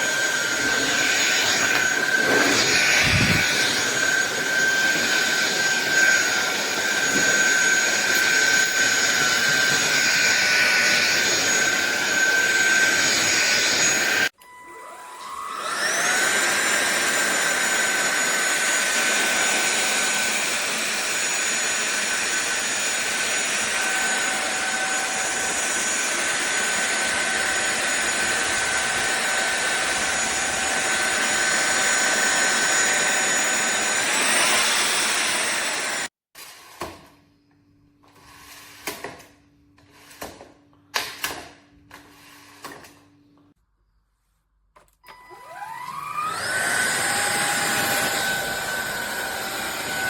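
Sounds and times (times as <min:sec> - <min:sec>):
stick vacuum cleaner whining: 0:00.0 - 0:36.1, 0:44.8 - 0:50.0.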